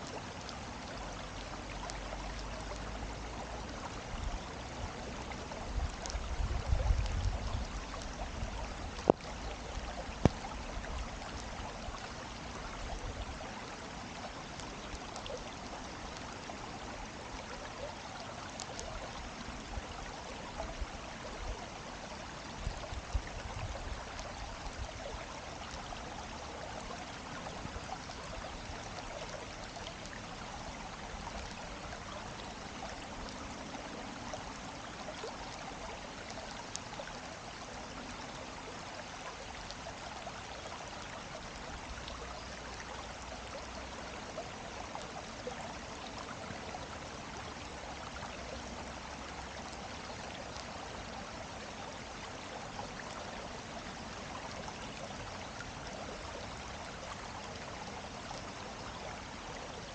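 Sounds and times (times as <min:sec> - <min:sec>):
stream rushing and babbling: 0:00.0 - 0:59.9.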